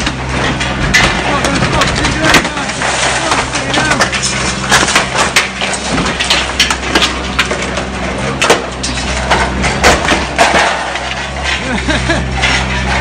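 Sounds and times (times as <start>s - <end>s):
excavator engine running: 0.0s - 13.0s
glass breaking and crunching: 0.0s - 13.0s.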